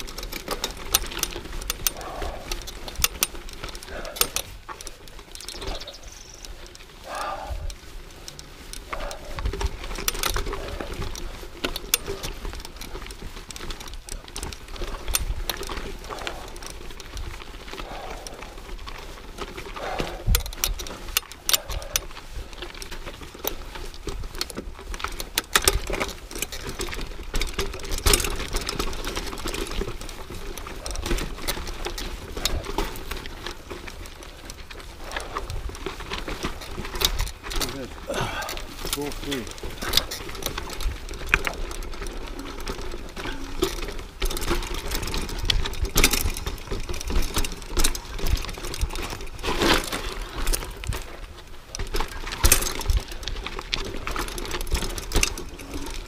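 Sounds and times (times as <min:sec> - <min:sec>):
bike rattling over bumps: 0:00.0 - 0:56.0
bike tyres rolling on dirt and stones: 0:00.0 - 0:56.0.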